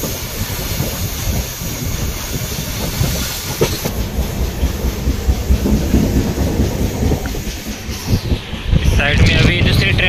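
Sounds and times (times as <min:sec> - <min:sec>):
steady rushing hiss: 0:00.0 - 0:10.0
train wheels clattering on track: 0:00.0 - 0:10.0.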